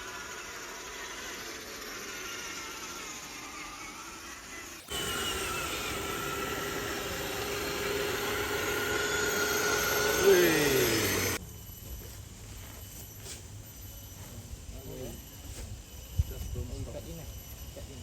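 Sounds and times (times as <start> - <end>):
rc truck motor and gear whine: 0.0 - 18.0.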